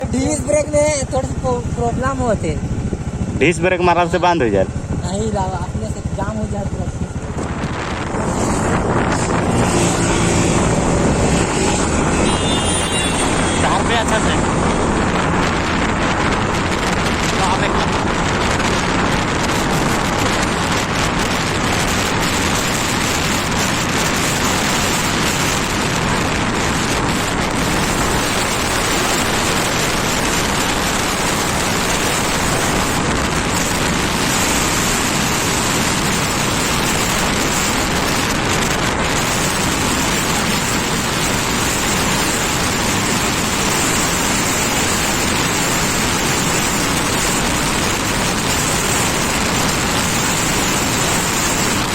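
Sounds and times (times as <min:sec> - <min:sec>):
scooter road noise: 0:00.0 - 0:51.9
wind rushing over microphone: 0:00.0 - 0:51.9.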